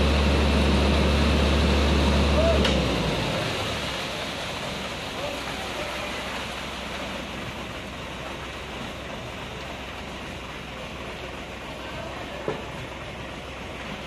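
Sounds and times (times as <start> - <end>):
concrete mixer truck rumbling: 0.0 - 14.0.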